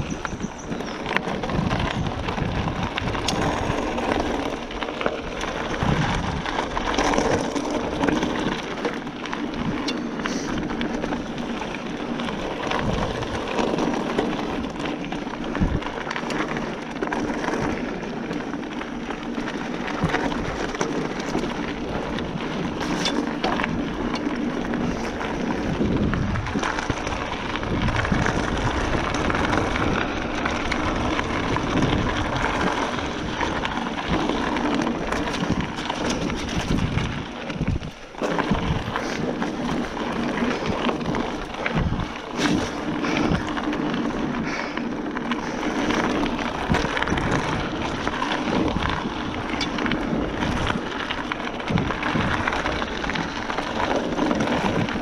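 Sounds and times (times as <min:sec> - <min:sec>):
bike rattling: 0:00.0 - 0:55.0
bike tyres rolling on trail: 0:00.0 - 0:55.0
wind buffeting microphone: 0:00.0 - 0:55.0.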